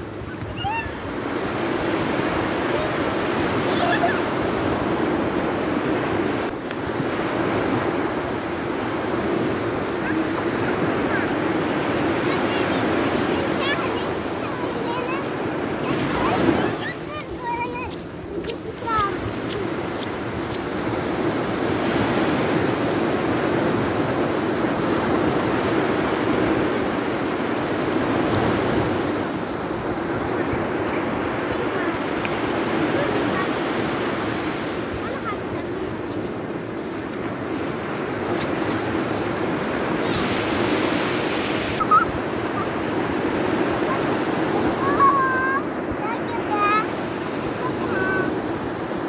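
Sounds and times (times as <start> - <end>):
surf washing onto beach: 0.0 - 49.0
waves breaking on sand: 0.0 - 49.0
wind on microphone: 0.0 - 49.0.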